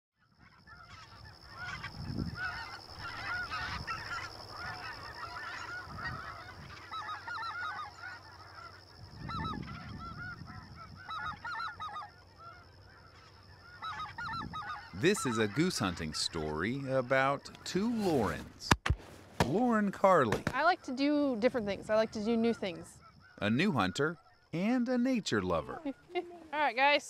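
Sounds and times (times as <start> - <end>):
geese honking: 0.4 - 18.5, 19.5 - 27.0.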